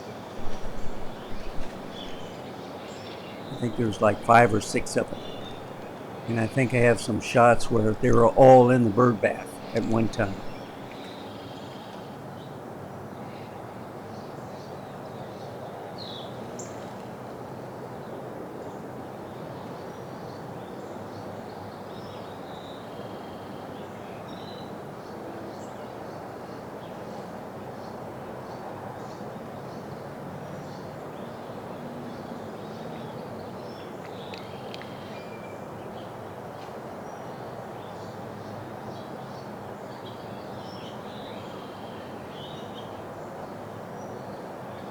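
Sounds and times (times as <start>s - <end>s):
outdoor background noise: 0.0s - 44.9s.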